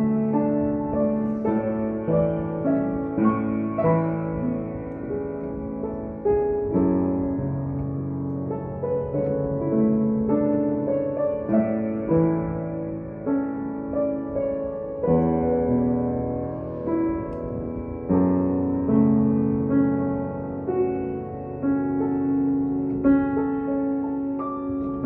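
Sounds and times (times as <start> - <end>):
soft piano melody: 0.0 - 25.0.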